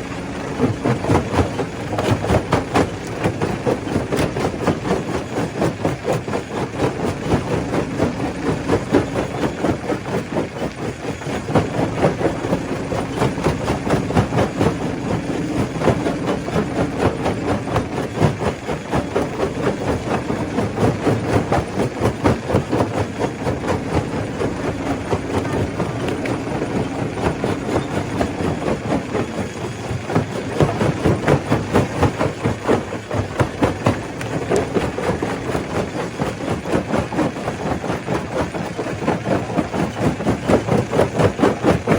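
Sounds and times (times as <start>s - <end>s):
machine hum: 0.0s - 41.9s.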